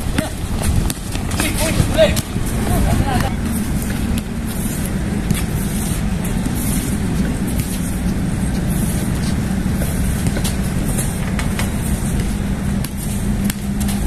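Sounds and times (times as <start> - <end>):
low hum: 0.0 - 14.0
outdoor background rumble: 0.0 - 14.0.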